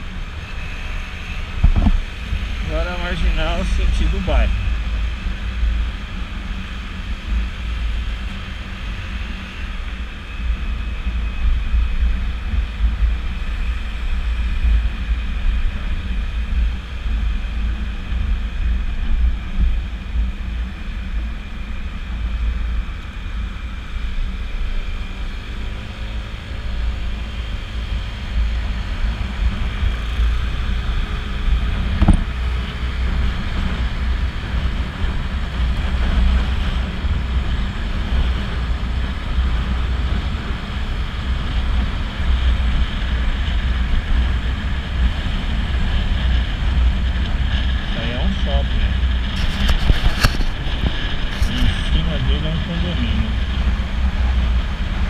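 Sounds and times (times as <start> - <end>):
scooter engine rumble: 0.0 - 55.0
wind rush on microphone: 0.0 - 55.0.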